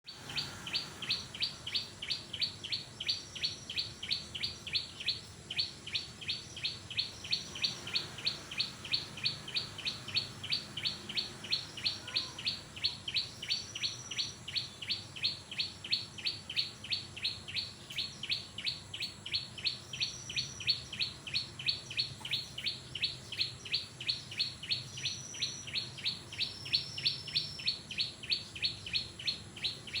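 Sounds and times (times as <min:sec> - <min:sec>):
songbird high chirps: 0:00.0 - 0:30.0.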